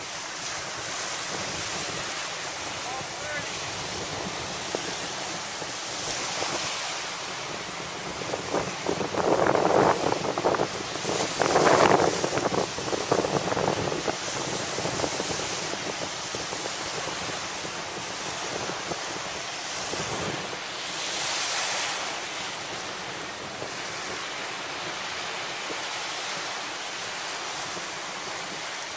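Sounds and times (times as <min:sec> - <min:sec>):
surf washing on sandy shore: 0:00.0 - 0:28.9
wind buffeting microphone: 0:00.0 - 0:28.9.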